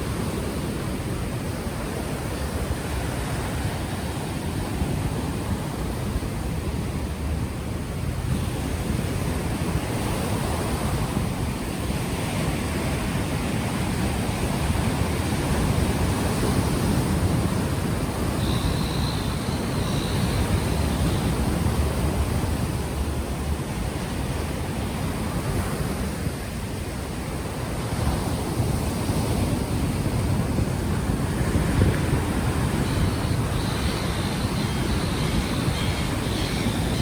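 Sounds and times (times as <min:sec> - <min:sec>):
ocean waves washing ashore: 0:00.0 - 0:37.0
wind rumbling on microphone: 0:00.0 - 0:37.0.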